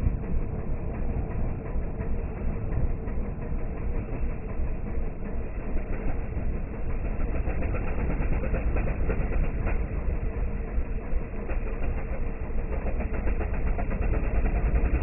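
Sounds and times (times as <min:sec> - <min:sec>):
atv engine running under load: 0:00.0 - 0:15.0.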